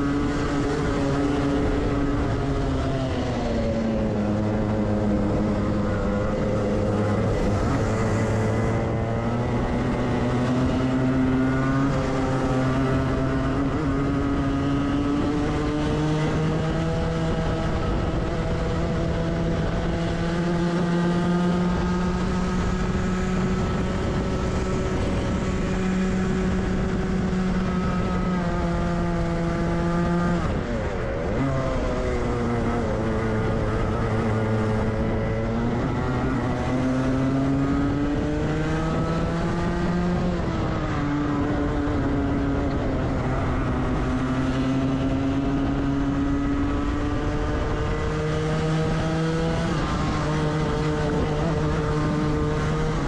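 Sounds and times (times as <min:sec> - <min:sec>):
kart engine at full throttle: 0:00.0 - 0:53.0.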